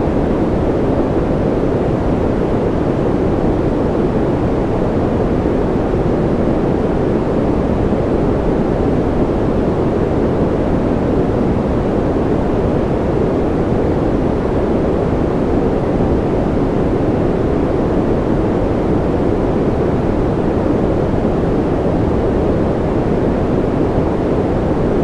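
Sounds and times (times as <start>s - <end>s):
steady white noise hiss: 0.0s - 25.0s.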